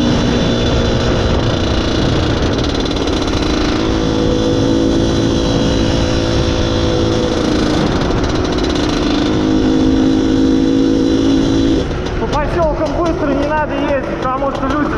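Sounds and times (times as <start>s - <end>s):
two-stroke motorcycle engine: 0.0s - 14.9s.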